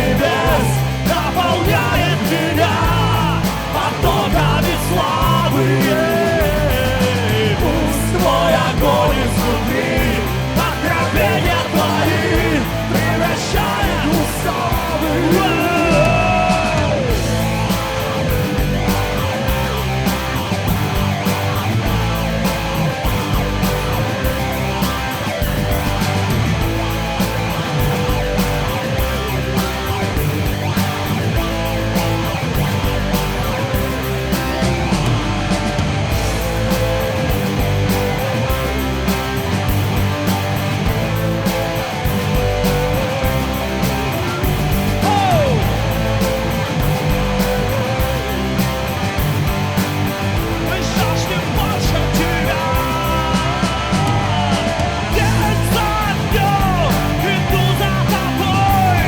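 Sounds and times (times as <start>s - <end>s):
electric guitar: 0.0s - 59.0s
rock worship song by band: 0.0s - 59.0s
steady drum beat: 0.0s - 59.0s.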